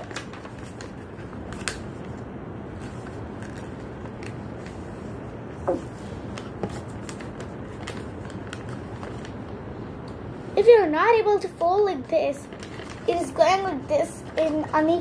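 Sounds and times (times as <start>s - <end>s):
paper rustling and creasing: 0.0s - 9.5s, 12.0s - 15.0s.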